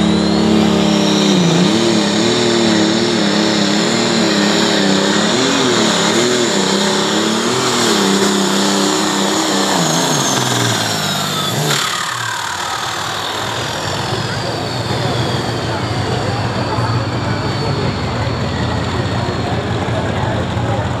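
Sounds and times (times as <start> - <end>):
tractor diesel engine under load: 0.0 - 21.0
turbo whine winding down: 0.0 - 21.0.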